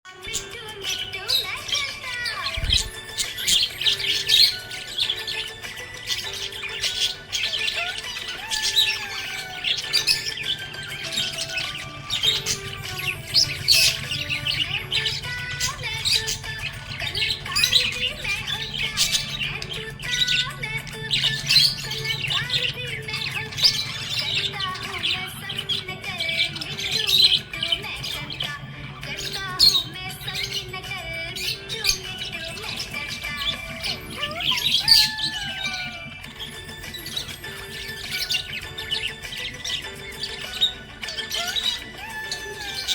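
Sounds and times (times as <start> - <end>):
background music: 0.1 - 42.9
budgies chirping and squawking: 0.1 - 42.9.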